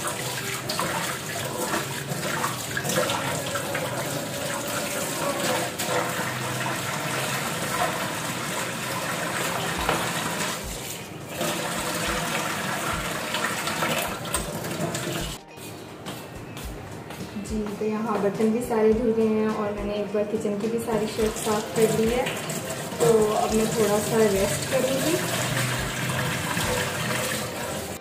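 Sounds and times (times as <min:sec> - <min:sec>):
tap water running into steel sink: 0:00.0 - 0:15.4, 0:20.7 - 0:28.0.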